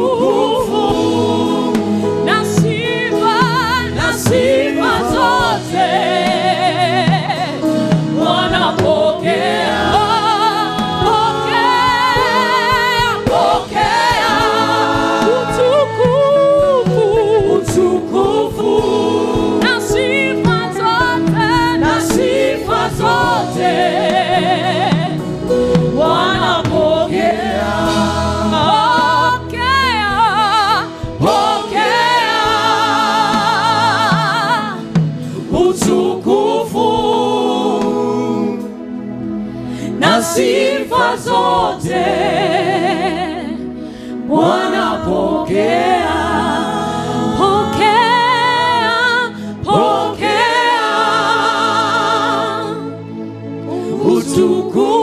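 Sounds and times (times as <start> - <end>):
choir singing gospel: 0.0 - 55.0
sustained accompaniment chords: 0.0 - 55.0.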